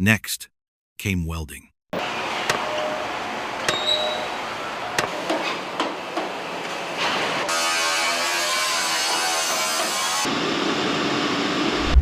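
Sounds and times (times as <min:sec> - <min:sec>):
dense steady factory noise: 0:02.0 - 0:11.8.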